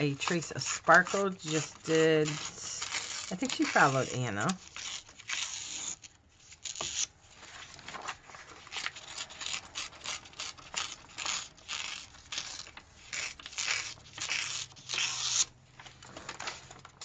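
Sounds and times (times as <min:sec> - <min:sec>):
paper tearing and crinkling: 0:00.0 - 0:17.0.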